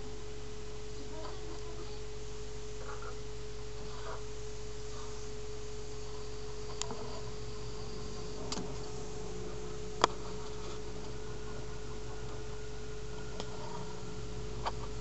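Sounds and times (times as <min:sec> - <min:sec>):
low hum: 0:00.0 - 0:15.0
steady electrical tone: 0:00.0 - 0:15.0.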